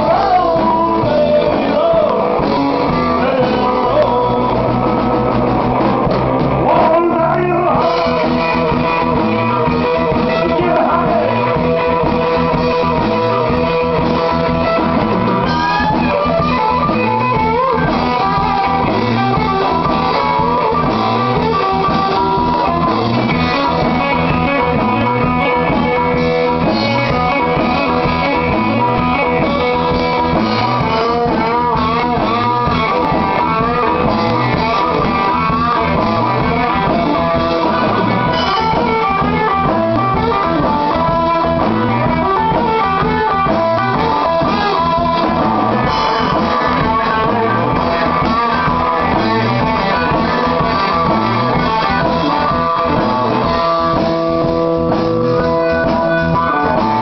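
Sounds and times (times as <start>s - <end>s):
strummed electric guitar: 0.0s - 57.0s
harmonica bending notes: 7.8s - 57.0s.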